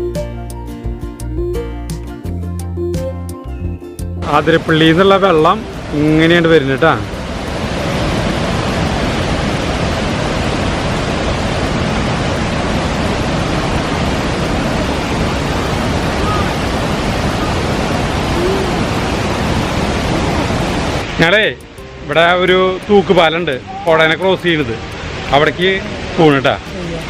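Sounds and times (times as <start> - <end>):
river water rushing: 4.2 - 27.0.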